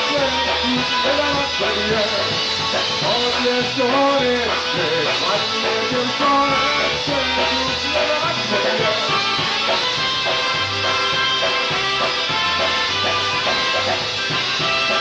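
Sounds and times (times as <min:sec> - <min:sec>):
polka band playing: 0:00.0 - 0:15.0.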